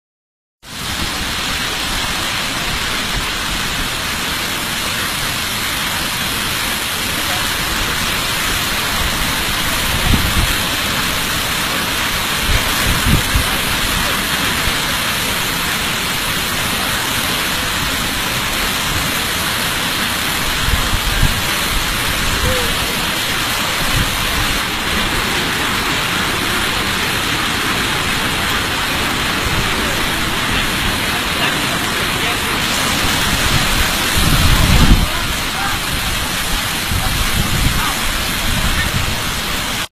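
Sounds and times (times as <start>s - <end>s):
waterfall rushing: 0.6s - 39.9s.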